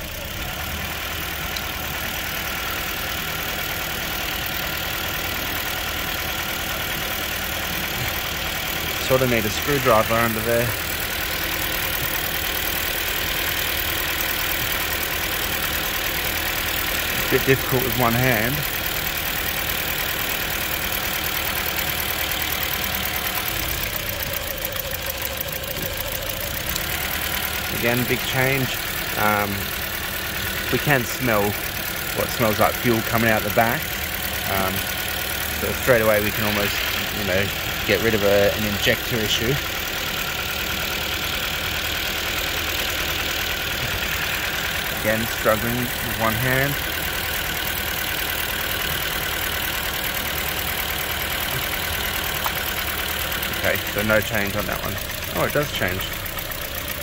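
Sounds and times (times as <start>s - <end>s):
car engine idling with misfire: 0.0s - 57.0s.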